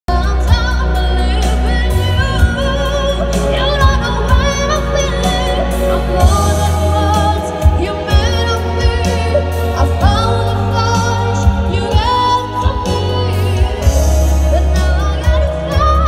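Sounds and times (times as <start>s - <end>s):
amplified musical accompaniment: 0.1s - 16.0s
boy singing into a microphone: 0.1s - 16.0s.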